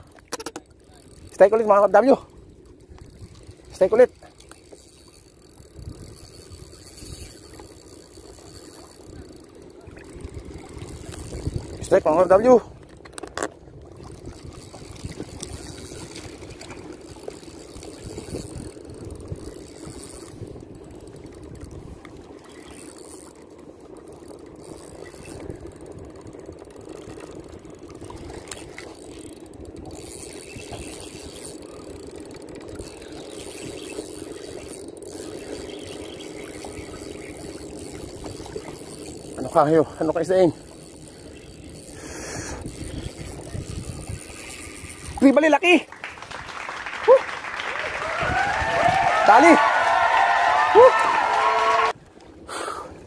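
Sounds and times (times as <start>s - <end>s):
fishing reel whirring and clicking: 0.0s - 53.0s.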